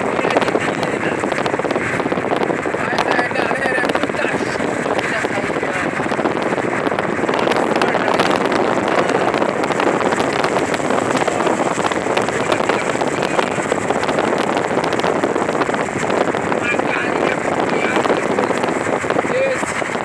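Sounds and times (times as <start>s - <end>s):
bus road and engine noise: 0.0s - 20.0s.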